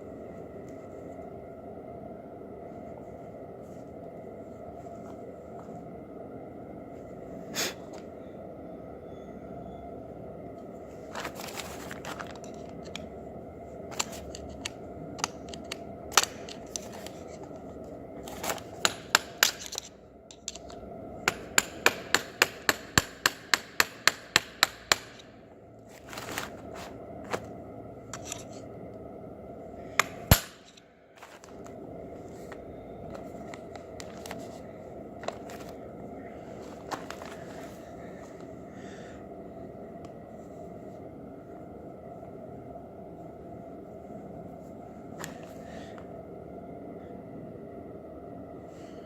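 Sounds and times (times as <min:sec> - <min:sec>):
steady hum: 0:00.0 - 0:49.0.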